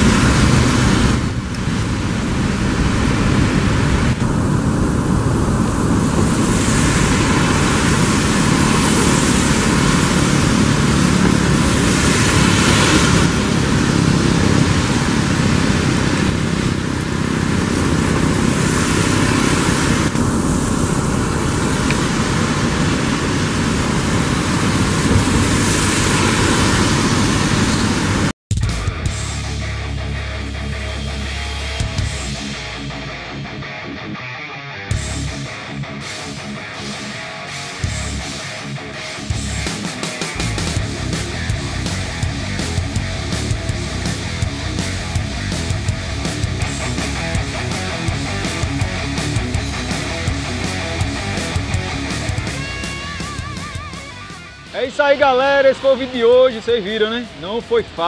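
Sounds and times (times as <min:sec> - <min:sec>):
jet engines rumbling: 0:00.0 - 0:28.4, 0:29.0 - 0:33.6, 0:34.9 - 0:58.0.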